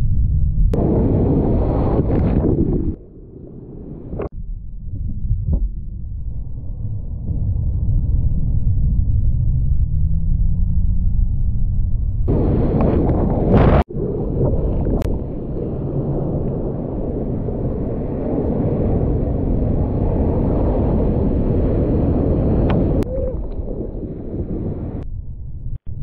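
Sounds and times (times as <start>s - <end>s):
muffled surf rumble: 0.0s - 26.0s.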